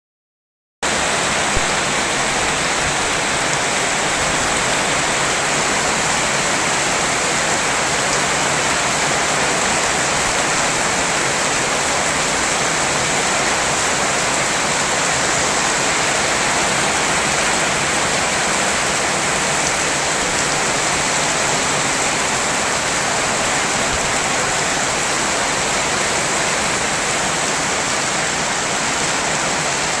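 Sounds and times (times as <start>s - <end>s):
heavy rain pouring: 0.9s - 30.0s.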